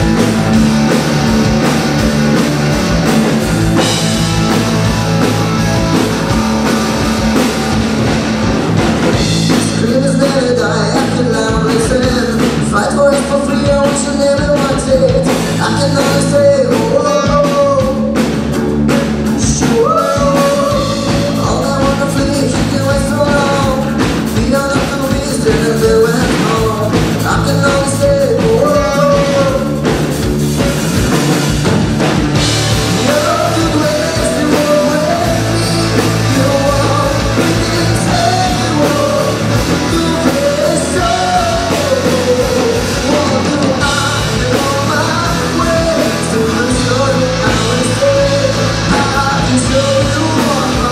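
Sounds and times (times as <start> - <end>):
bass guitar: 0.0 - 50.9
drum kit: 0.0 - 50.9
electric guitars: 0.0 - 50.9
lead vocals: 0.0 - 50.9.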